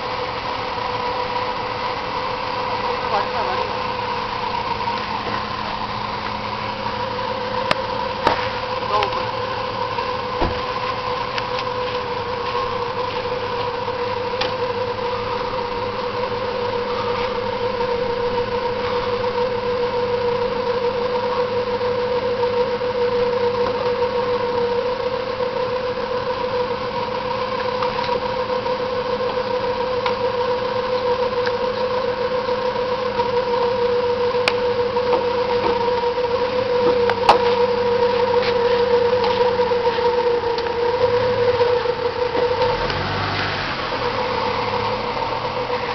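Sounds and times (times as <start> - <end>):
motor whine: 0.0 - 45.9.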